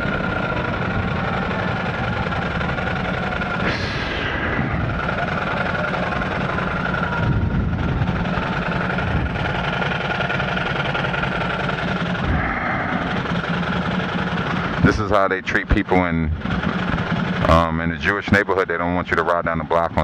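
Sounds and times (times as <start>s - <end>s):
road noise: 0.0s - 17.5s
motorcycle engine running: 0.0s - 20.0s.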